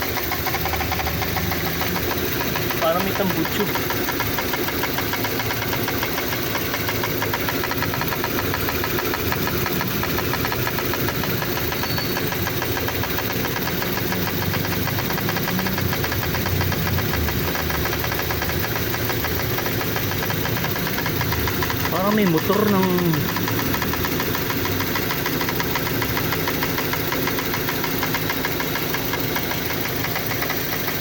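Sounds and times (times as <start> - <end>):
car engine running: 0.0 - 31.0
rapid even rattle: 0.0 - 31.0.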